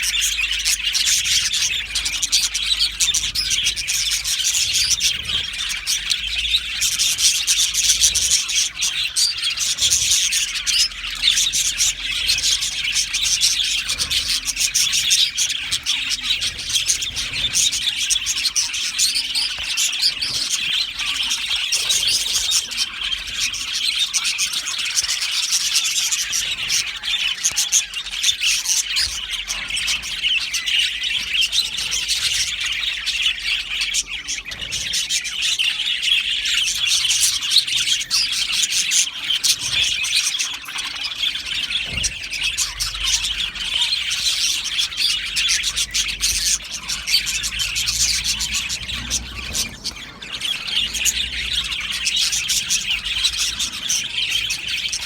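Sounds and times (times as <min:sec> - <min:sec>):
bird squawks: 0:00.0 - 0:55.0
budgerigars chattering: 0:00.0 - 0:55.0.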